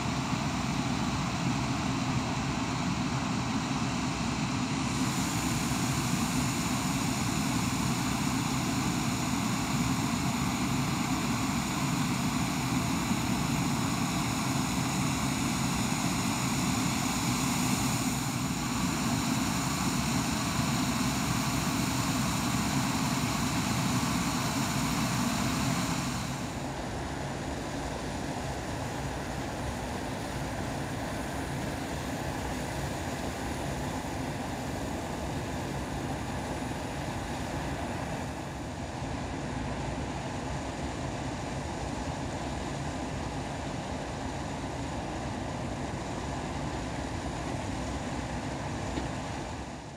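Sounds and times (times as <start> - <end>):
jet engines idling: 0.0 - 49.9.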